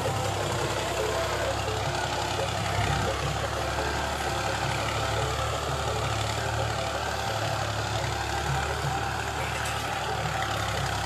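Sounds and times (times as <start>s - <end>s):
distant tractor engine droning: 0.0s - 11.0s.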